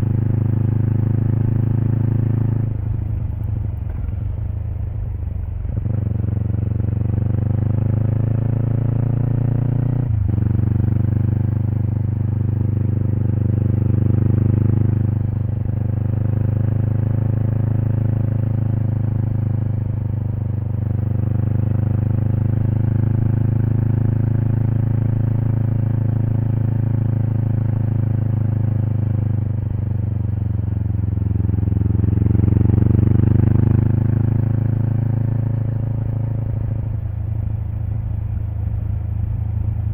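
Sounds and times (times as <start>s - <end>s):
motorcycle exhaust: 0.0s - 39.9s.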